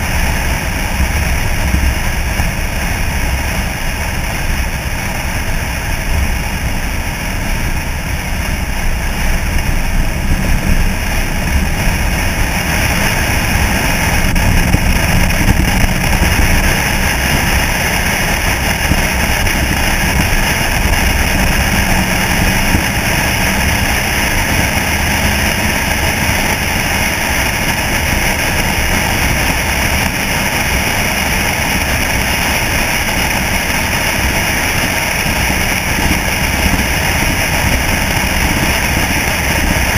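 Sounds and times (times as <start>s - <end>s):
truck engine low drone: 0.0s - 39.9s
wind and road noise: 0.0s - 39.9s.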